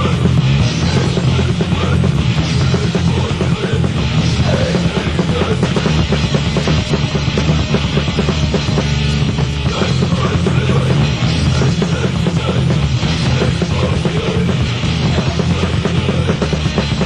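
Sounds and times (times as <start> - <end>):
fast drum beats: 0.0 - 17.0
loud grindcore band music: 0.0 - 17.0.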